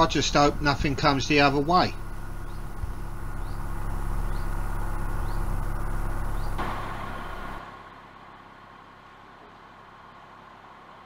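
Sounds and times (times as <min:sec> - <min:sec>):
boat diesel engine running: 0:00.0 - 0:11.0.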